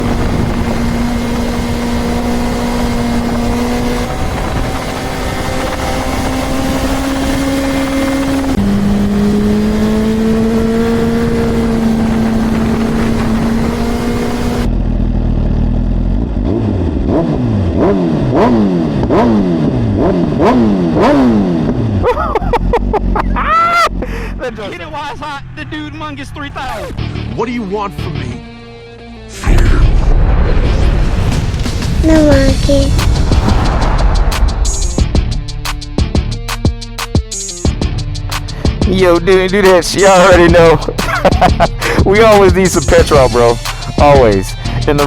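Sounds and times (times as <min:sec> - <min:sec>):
motorcycle engine revving: 0:00.0 - 0:23.3, 0:31.0 - 0:45.0.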